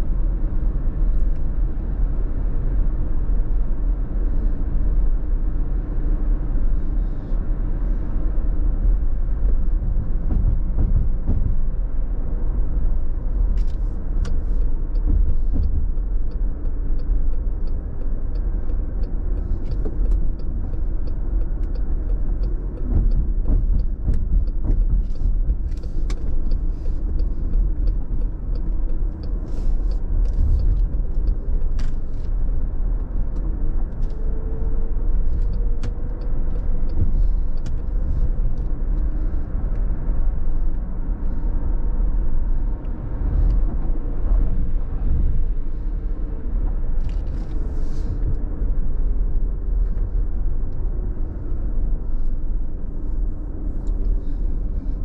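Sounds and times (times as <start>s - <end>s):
road rumble in car cabin: 0.0s - 55.0s.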